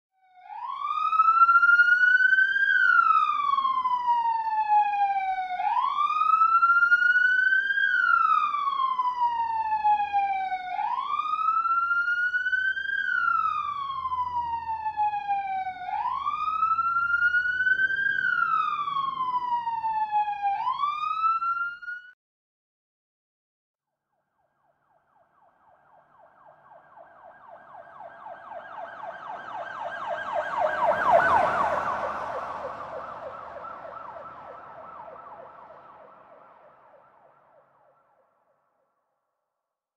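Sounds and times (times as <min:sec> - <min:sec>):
police siren wailing: 0:00.2 - 0:22.2, 0:24.3 - 0:38.3.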